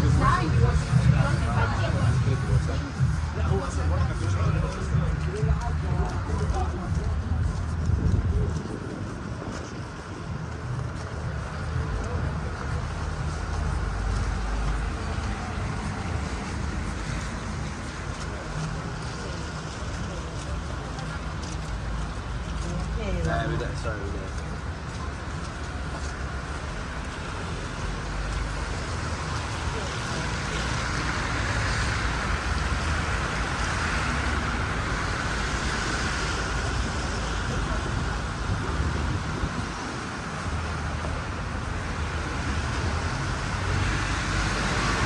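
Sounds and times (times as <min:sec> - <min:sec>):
road traffic: 0:00.0 - 0:45.0
vehicle rumble: 0:00.0 - 0:45.0.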